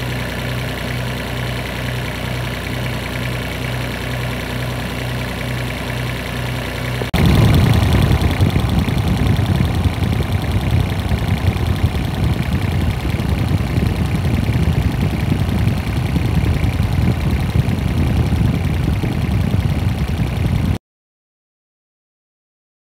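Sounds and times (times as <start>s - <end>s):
diesel engine idling: 0.0s - 20.8s.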